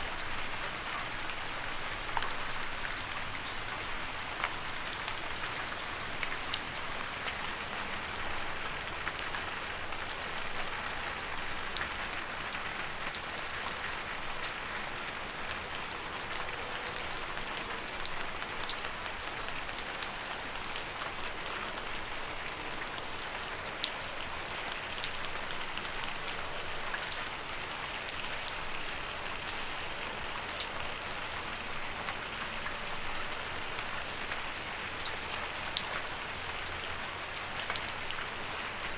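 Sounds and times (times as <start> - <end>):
raindrops ticking on a surface: 0.0 - 38.9
steady rain hiss: 0.0 - 38.9.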